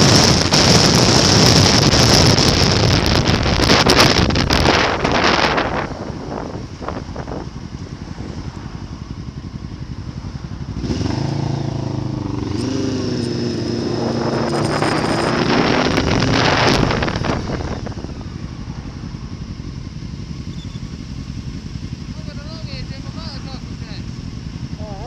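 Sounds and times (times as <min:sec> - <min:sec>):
steady low rumble: 0:00.0 - 0:25.0
motorcycle passing by: 0:03.7 - 0:25.0.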